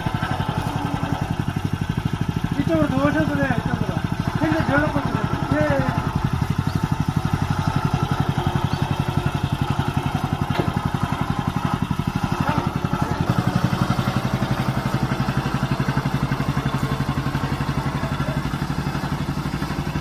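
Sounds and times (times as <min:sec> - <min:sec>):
small engine running steadily: 0:00.0 - 0:20.0.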